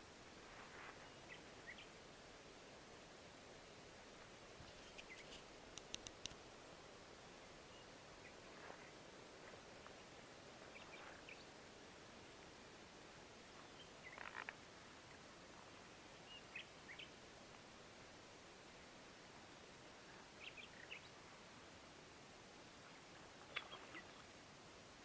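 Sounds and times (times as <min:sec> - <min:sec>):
background hiss: 0:00.0 - 0:25.0.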